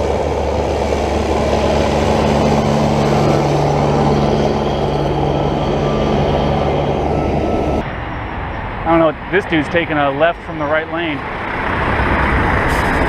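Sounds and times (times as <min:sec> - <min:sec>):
road noise rushing: 0:00.0 - 0:13.0
vehicle engine humming: 0:00.0 - 0:13.0.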